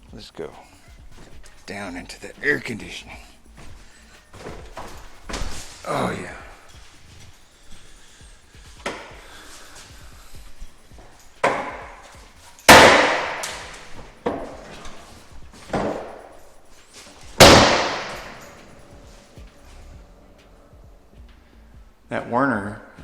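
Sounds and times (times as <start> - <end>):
footsteps on ladder rungs: 0.0 - 22.1.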